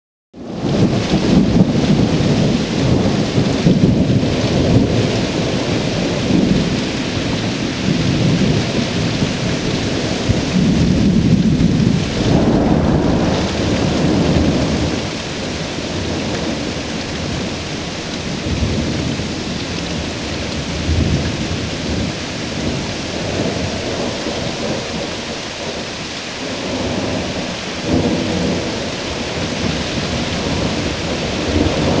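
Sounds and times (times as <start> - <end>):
steady rain: 0.4 - 32.0
thunder rumbling: 0.4 - 32.0.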